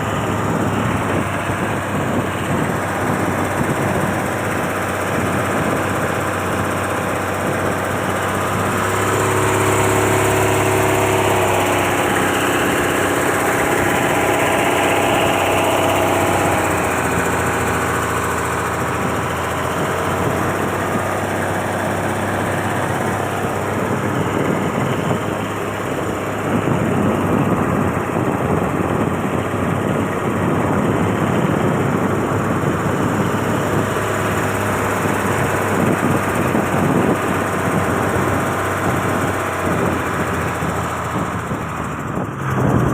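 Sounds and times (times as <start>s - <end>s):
motor boat engine running: 0.0s - 42.9s.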